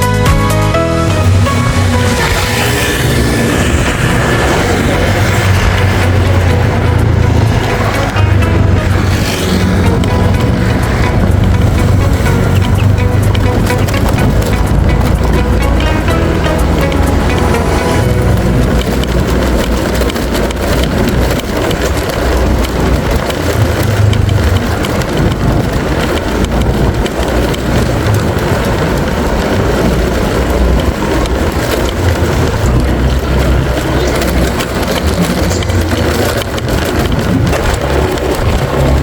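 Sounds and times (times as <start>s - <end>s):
loud rushing noise: 0.7s - 39.0s.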